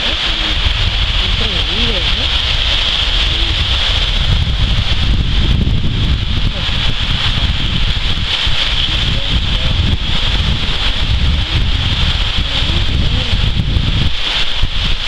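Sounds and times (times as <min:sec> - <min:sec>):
high-pitched hiss: 0:00.0 - 0:15.0
wind buffeting microphone: 0:00.0 - 0:15.0.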